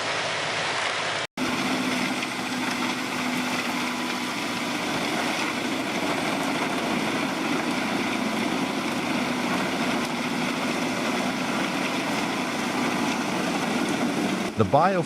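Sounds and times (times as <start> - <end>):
wood chipper running: 0.3 - 15.0.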